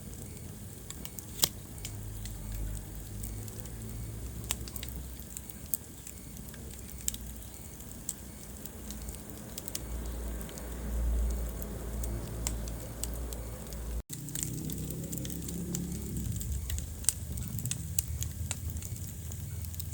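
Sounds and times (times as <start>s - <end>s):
low rumble of flames: 0.0s - 19.9s
wood fire crackling: 0.0s - 19.9s.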